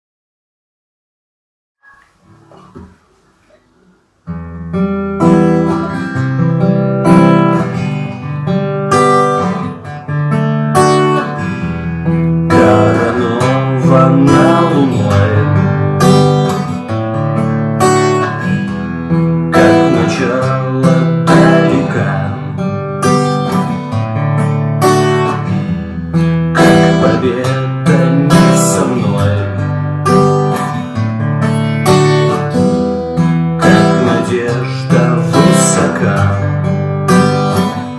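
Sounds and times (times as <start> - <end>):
acoustic guitar strumming chords: 1.8 - 37.9.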